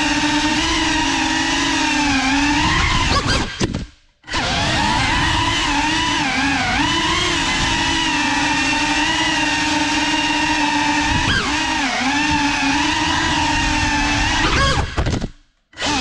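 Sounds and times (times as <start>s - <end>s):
drone propellers whining: 0.0s - 15.2s, 15.8s - 16.0s.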